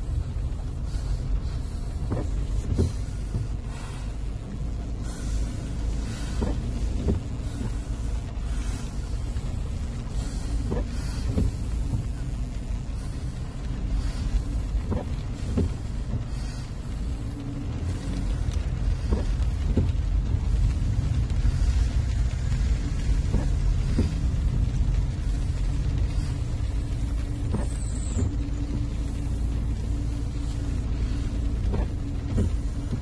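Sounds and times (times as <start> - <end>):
tyre hiss on wet road: 0.0 - 33.0
vehicle engine and road rumble: 0.0 - 33.0.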